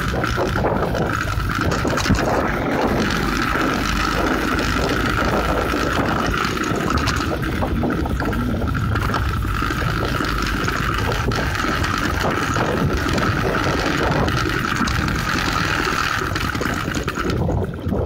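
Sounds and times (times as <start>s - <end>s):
steady mid-pitched hum: 0.0s - 18.0s
wind on microphone: 0.0s - 18.0s.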